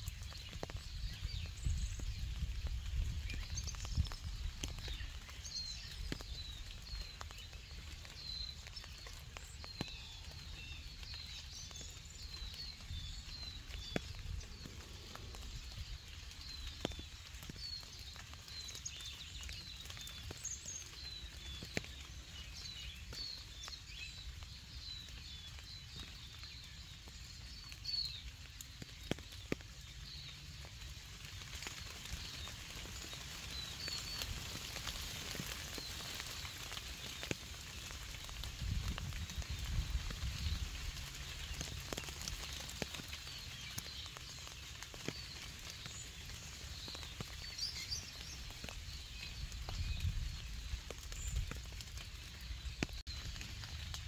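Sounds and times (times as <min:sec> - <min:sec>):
raindrops pattering: 0:00.0 - 0:54.0
small birds chirping: 0:00.0 - 0:54.0.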